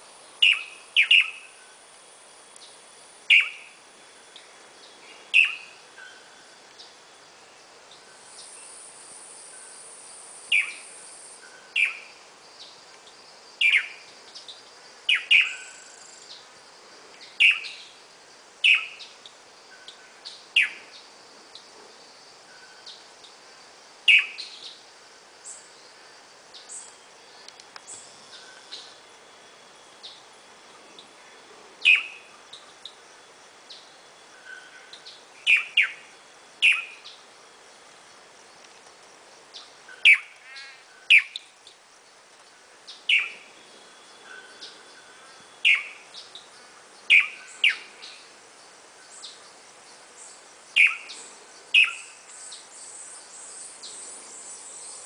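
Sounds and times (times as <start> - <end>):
faint chirps of other birds: 0.0 - 1.9, 2.5 - 55.0.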